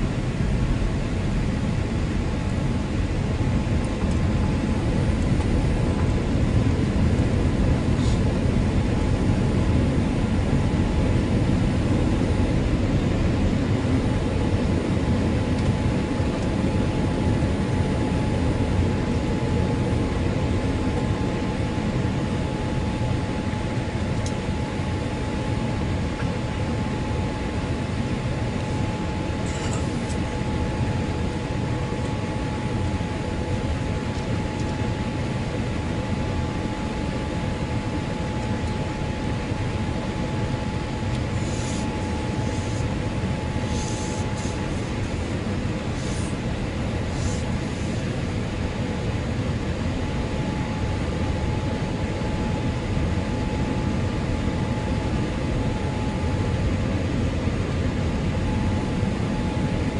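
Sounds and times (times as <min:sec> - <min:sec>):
jet engines and airflow: 0:00.0 - 0:59.9
steady high hum: 0:00.0 - 0:59.9.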